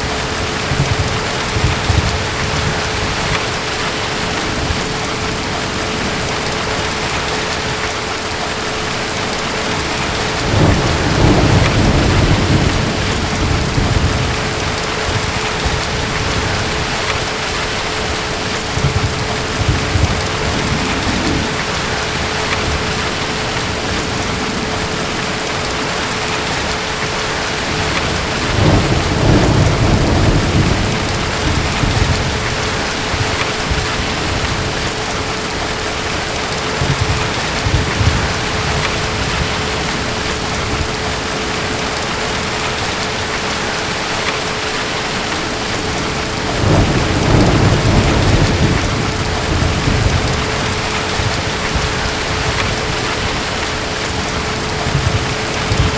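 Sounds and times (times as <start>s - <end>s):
distant thunder rumbling: 0.0s - 55.9s
heavy rain: 0.0s - 55.9s.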